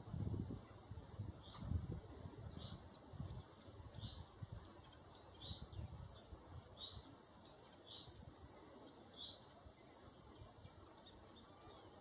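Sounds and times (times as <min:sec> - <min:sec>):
bird chirping: 0:01.4 - 0:01.7, 0:02.5 - 0:12.0.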